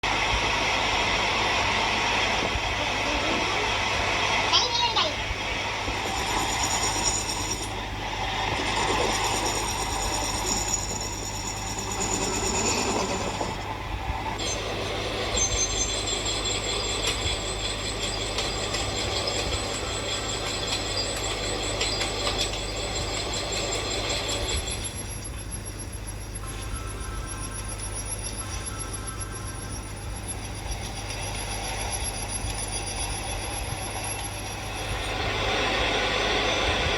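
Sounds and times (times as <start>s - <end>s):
lathe motor humming: 5.2s - 36.9s
cutting tool whining on metal: 5.8s - 36.9s.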